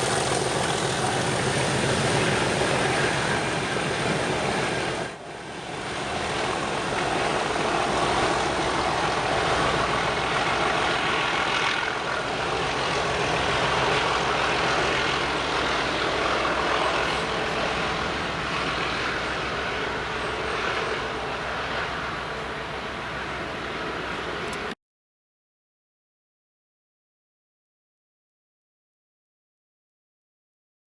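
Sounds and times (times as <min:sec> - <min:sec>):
diesel locomotives working hard: 0:00.0 - 0:24.8.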